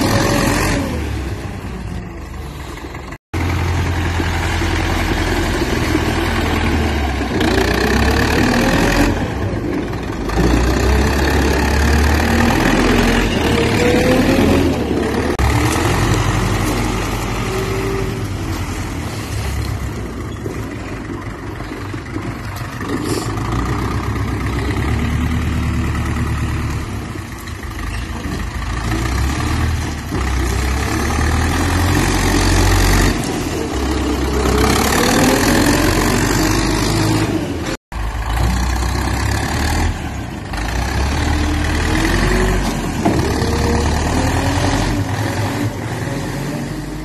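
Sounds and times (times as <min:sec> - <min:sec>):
tractor diesel engine revving: 0:00.0 - 0:47.0.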